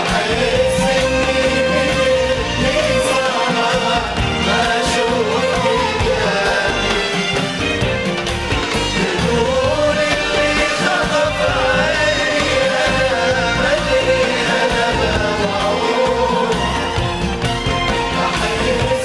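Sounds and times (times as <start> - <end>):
person singing: 0.0 - 7.8, 8.7 - 19.0
frame drums and tambourine beat: 0.0 - 19.0
orchestra melody: 0.0 - 19.0.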